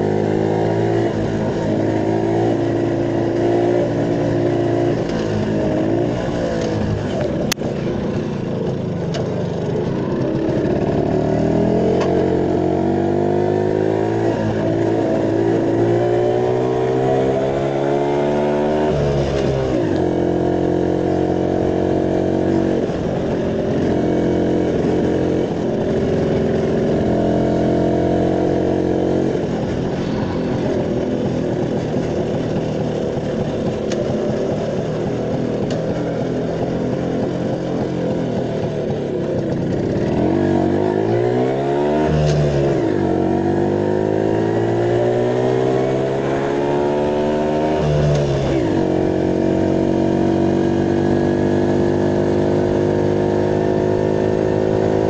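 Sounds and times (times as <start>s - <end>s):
moped engine running: 0.0s - 55.0s.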